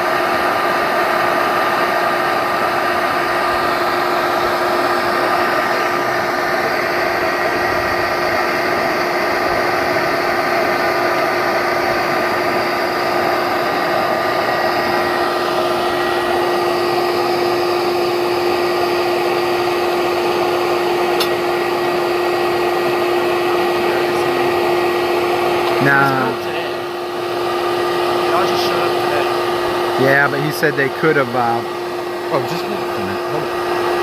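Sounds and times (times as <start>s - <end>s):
electric vacuum running: 0.0s - 34.0s.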